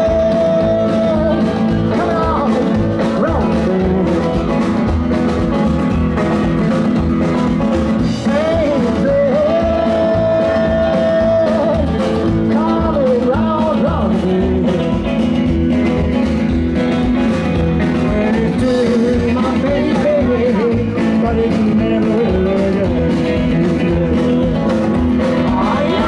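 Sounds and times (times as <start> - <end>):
lead guitar bending notes: 0.0 - 26.0
live rock and roll band: 0.0 - 26.0.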